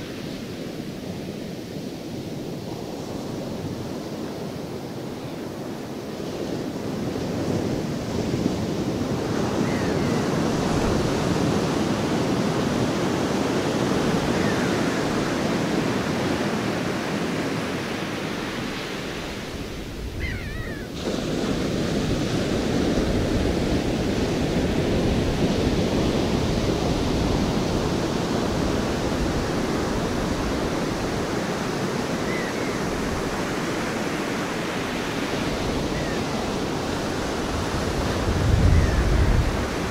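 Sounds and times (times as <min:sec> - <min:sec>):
ocean surf washing in: 0:00.0 - 0:39.9.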